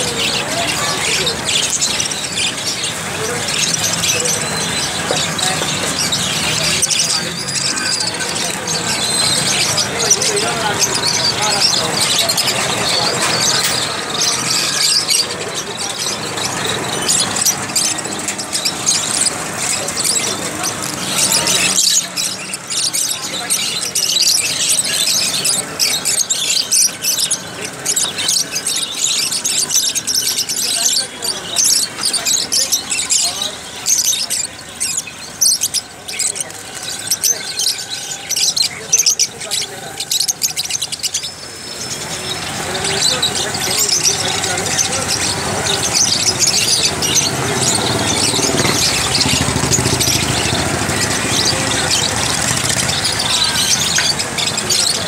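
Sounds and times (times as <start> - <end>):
engine rumble: 0.0 - 55.0
lovebirds chirping and screeching: 0.0 - 55.0.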